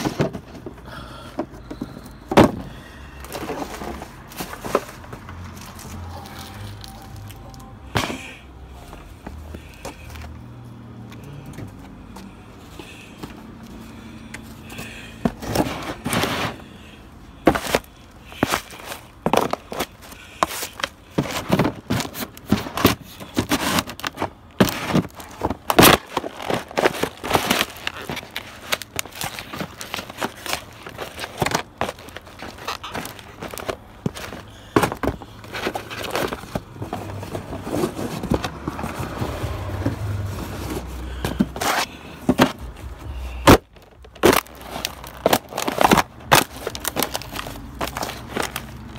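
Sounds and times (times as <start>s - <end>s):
cardboard boxes crushed underfoot: 0.0s - 10.3s, 14.7s - 48.9s.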